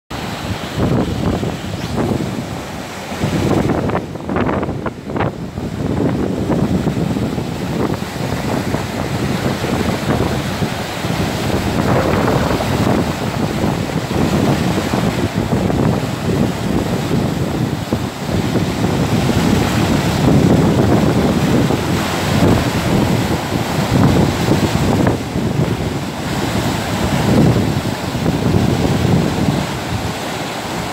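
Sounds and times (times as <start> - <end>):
surf breaking over boulders: 0.1 - 30.9
wind buffeting microphone: 0.1 - 30.9.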